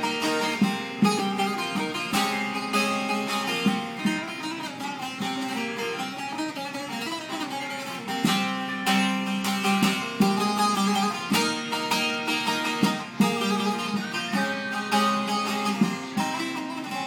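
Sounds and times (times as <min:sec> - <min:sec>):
long-necked lute folk tune: 0:00.0 - 0:17.0.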